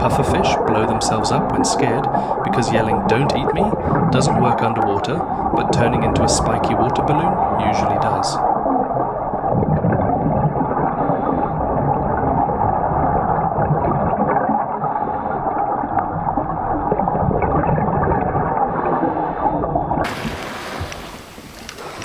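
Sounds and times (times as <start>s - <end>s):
underwater gurgling and bubbling: 0.0s - 22.0s.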